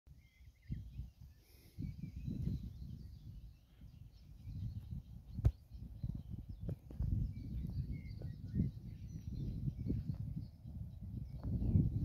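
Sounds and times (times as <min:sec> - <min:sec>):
birds chirping: 0:00.1 - 0:12.0
wind buffeting microphone: 0:00.2 - 0:12.0.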